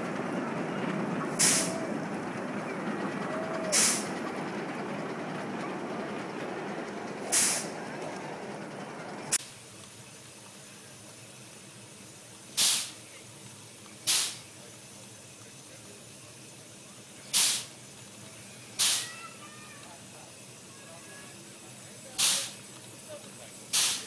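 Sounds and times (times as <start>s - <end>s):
steam hisses: 0.0s - 5.2s, 7.2s - 7.8s, 9.3s - 24.0s.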